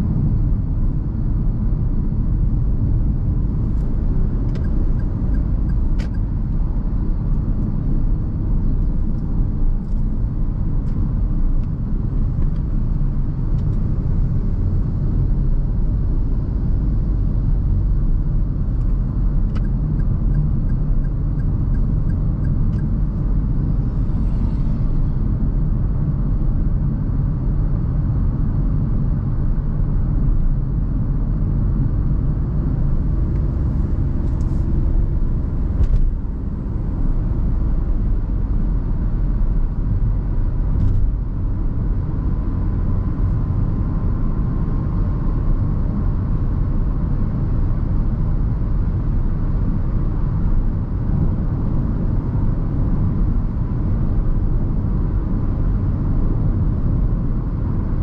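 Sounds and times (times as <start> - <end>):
car cabin road and engine rumble: 0.0 - 58.0.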